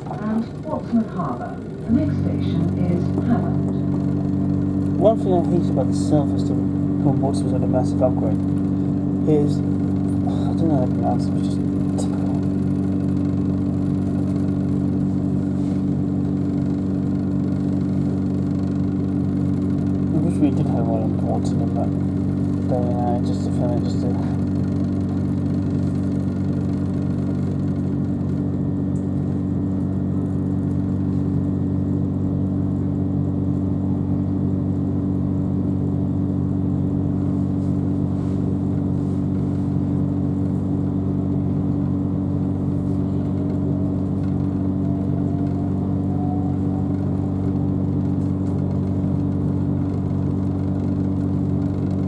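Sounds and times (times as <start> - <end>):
electric train carriage hum: 0.0 - 52.0
faint rising whine: 1.0 - 52.0.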